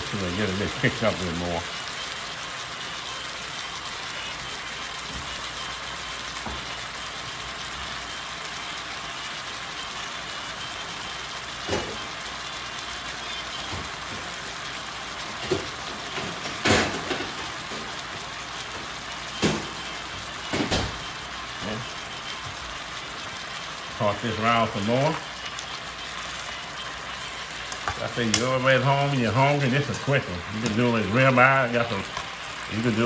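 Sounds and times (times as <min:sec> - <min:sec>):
chicken sizzling in skillet: 0:00.0 - 0:33.0.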